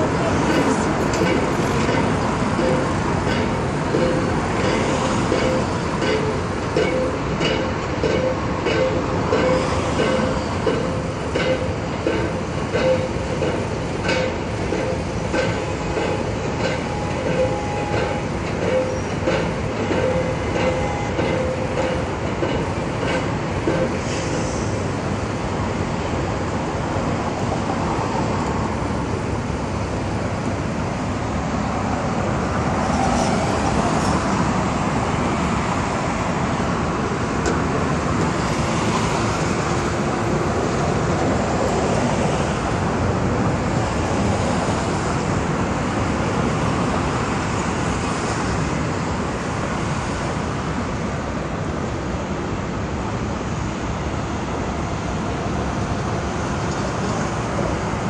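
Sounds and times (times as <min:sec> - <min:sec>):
highway traffic rush: 0:00.0 - 0:58.0.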